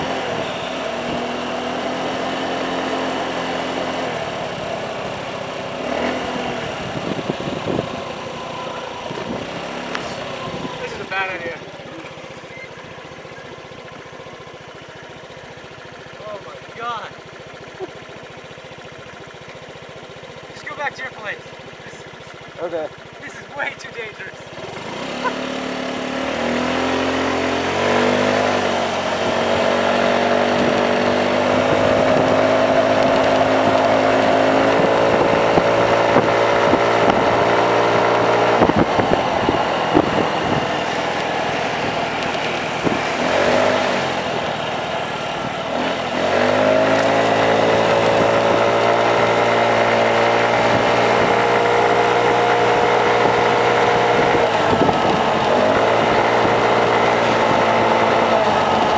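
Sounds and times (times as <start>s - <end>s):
motor scooter engine: 0.0s - 58.9s.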